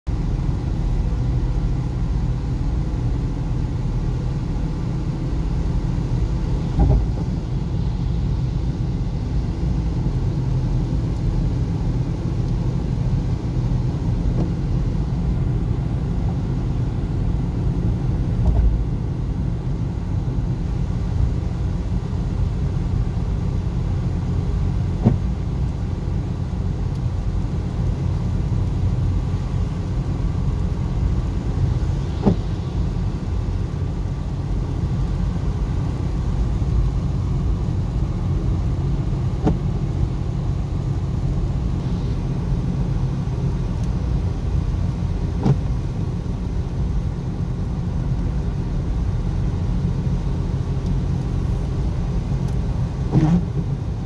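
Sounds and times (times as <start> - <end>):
car rumble on wet road: 0.1 - 54.0.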